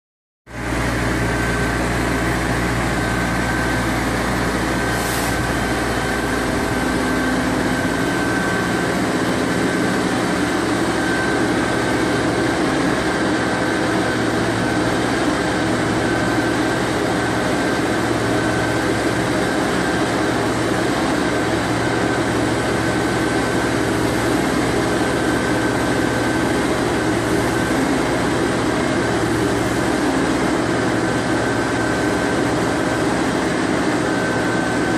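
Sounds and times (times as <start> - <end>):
excavator diesel engine: 0.5 - 34.9
hydraulics working: 0.6 - 34.9.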